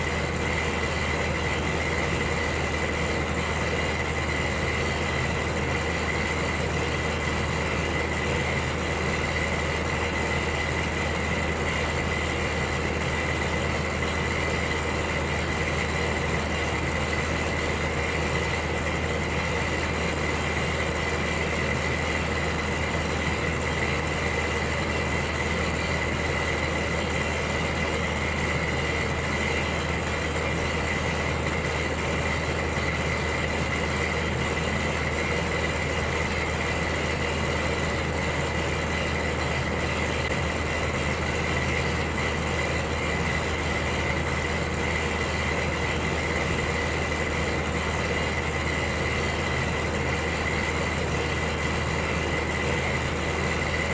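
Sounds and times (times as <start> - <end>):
electric heater hum: 0.0 - 53.9.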